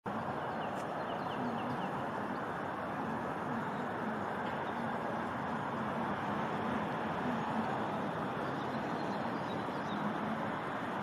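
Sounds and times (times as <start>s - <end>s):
distant city traffic rumble: 0.1s - 11.0s.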